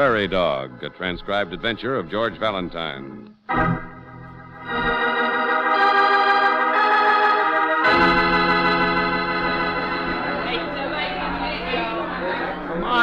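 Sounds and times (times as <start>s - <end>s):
organ chords: 0.0s - 13.0s.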